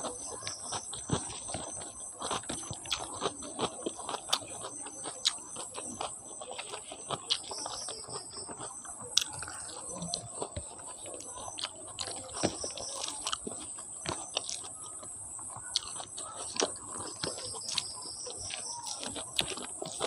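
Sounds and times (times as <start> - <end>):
fingers squishing rice: 0.0 - 20.0
wet chewing and lip smacks: 0.0 - 20.0.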